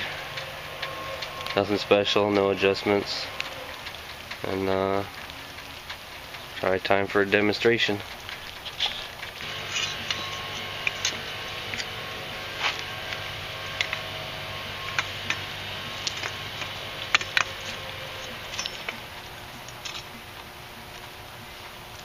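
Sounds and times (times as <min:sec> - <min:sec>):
low electrical hum: 0:00.0 - 0:22.0
welding arc crackling and popping: 0:00.0 - 0:22.0.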